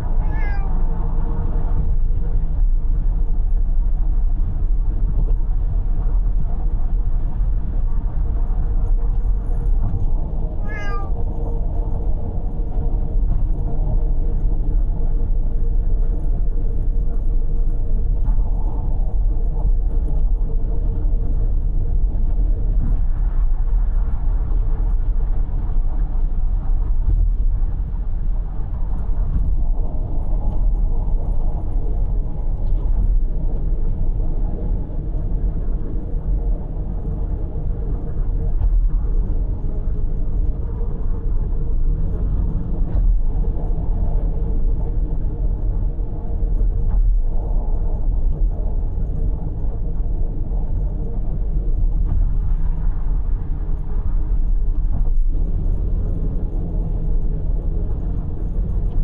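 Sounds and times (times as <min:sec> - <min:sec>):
car interior road and engine rumble: 0:00.0 - 0:59.0.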